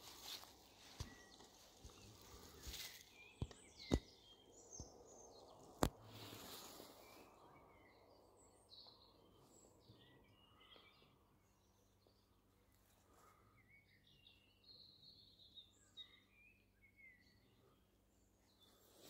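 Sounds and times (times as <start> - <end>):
faint songbirds chirping: 0.0 - 19.0.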